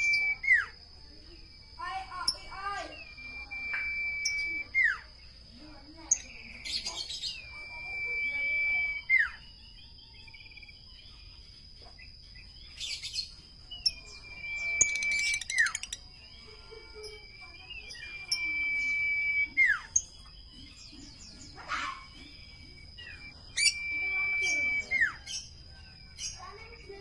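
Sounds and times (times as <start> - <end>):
bird whistling and chirping: 0.0 - 0.8, 1.8 - 27.0.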